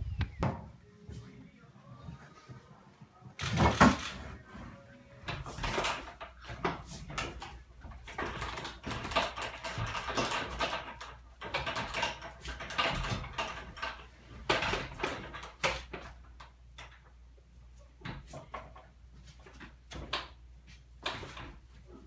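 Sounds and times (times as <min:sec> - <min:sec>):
wooden rig knocking and creaking: 0:03.4 - 0:17.2, 0:18.0 - 0:22.0.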